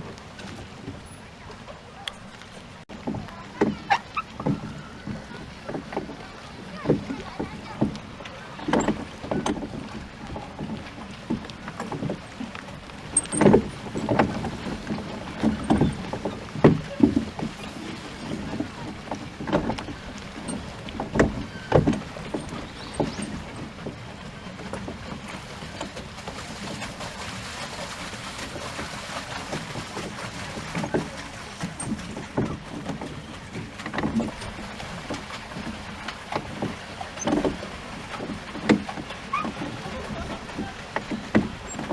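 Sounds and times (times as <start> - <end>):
water lapping: 0.0 - 41.9
water splashing against boat: 0.0 - 41.9.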